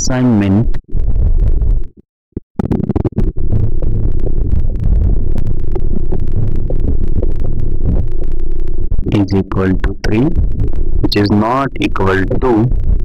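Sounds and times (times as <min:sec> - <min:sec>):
low hum and rumble: 0:00.0 - 0:02.0, 0:02.6 - 0:13.0.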